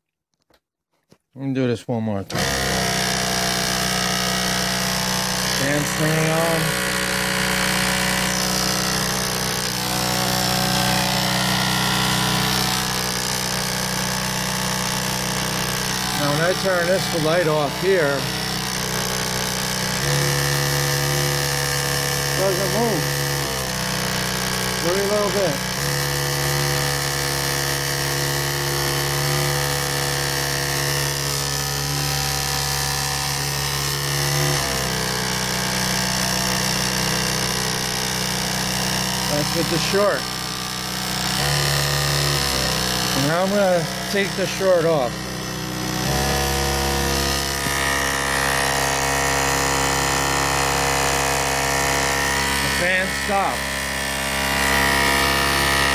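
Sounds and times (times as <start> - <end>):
electric pump motor humming: 2.3 - 55.9.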